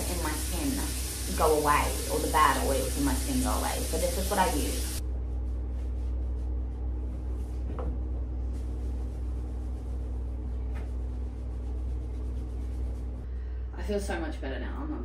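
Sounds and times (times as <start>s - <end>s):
towel rubbing wet hair: 0.0s - 7.7s, 8.3s - 13.3s
steady low hum: 0.0s - 15.0s.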